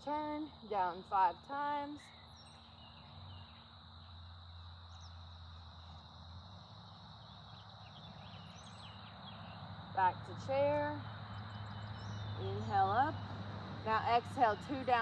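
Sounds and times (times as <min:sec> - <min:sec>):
high insect drone: 0:00.3 - 0:14.8.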